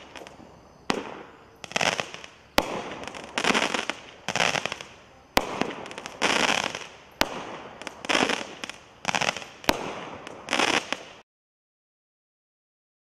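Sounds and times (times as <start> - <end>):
firework bangs: 0.0 - 11.2
firework crackling: 0.0 - 11.2.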